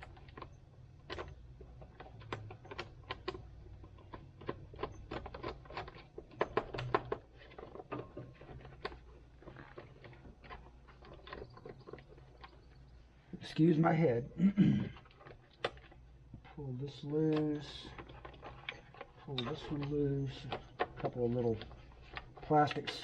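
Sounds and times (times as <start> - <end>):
plastic trim clicking and rattling: 0.0 - 12.9, 14.9 - 23.0.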